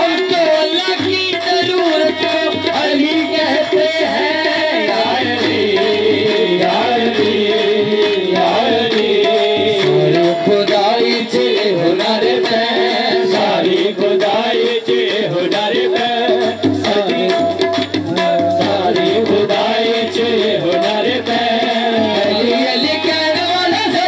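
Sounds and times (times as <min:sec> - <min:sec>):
tabla drumming: 0:00.0 - 0:24.0
person singing with wavering notes: 0:01.3 - 0:24.0.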